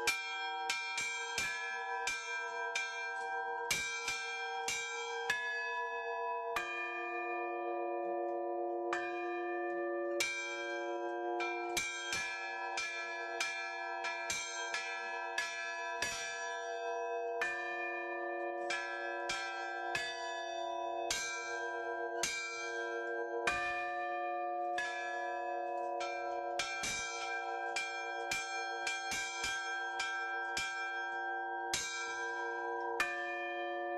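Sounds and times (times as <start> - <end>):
church bells ringing: 0.0 - 5.3, 6.8 - 33.9.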